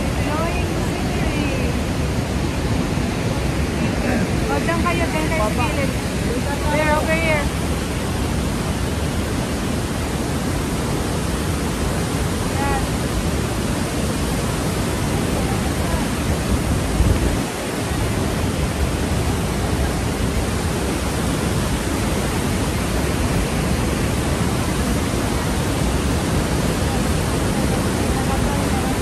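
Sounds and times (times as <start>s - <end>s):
rush of falling water: 0.0s - 29.0s.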